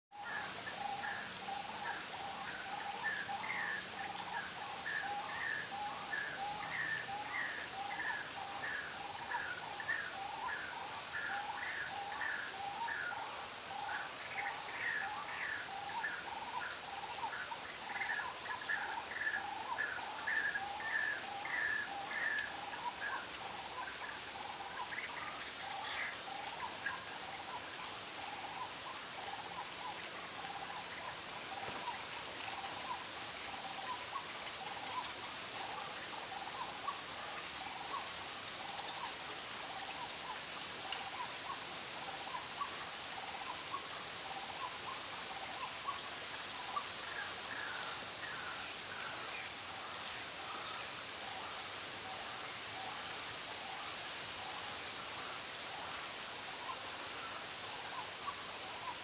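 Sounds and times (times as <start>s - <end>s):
steady high hiss: 0.1s - 59.0s.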